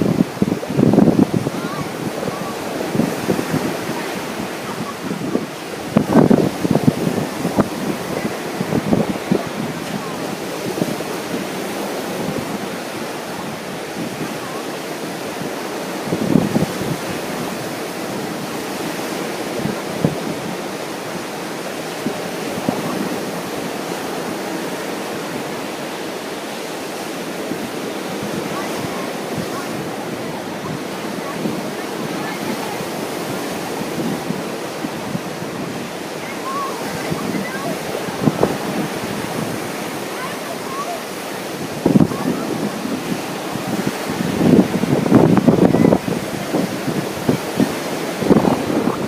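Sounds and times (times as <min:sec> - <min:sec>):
ocean surf washing on beach: 0:00.0 - 0:49.0
wind buffeting microphone: 0:00.0 - 0:49.0.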